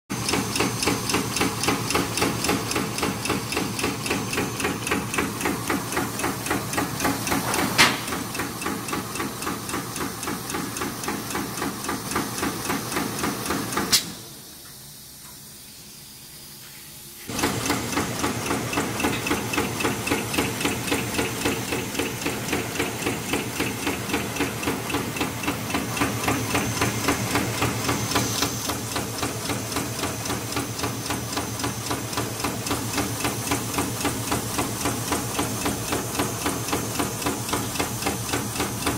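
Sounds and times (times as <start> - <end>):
welding machine clatter with hiss: 0.1 - 38.9.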